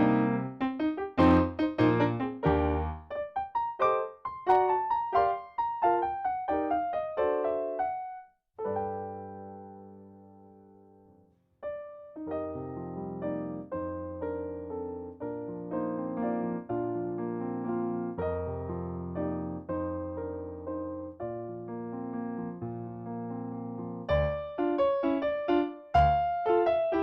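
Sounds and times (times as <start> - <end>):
solo piano: 0.0 - 27.0.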